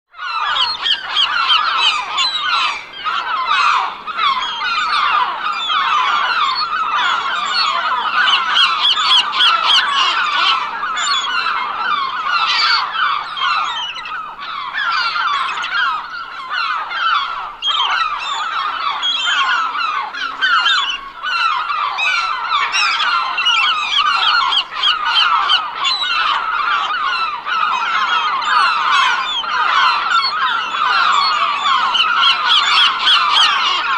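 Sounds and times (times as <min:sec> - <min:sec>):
gulls calling: 0:00.1 - 0:33.9.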